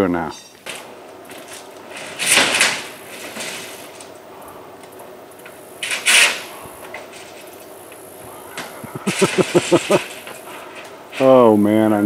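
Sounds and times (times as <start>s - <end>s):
quiet scraping and rustling: 0.0s - 12.0s
roofing scraping clatter: 0.0s - 12.0s.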